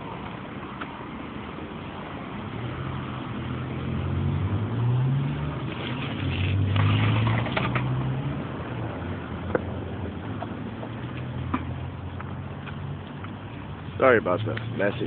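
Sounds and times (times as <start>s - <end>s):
passing vehicle engine hum: 2.2s - 15.0s.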